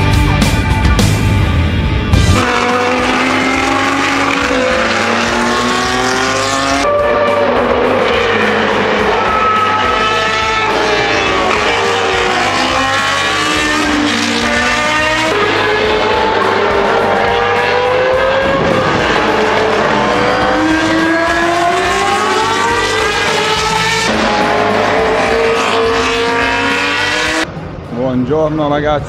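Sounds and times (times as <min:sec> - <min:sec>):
racing cars passing by: 0:02.2 - 0:29.0.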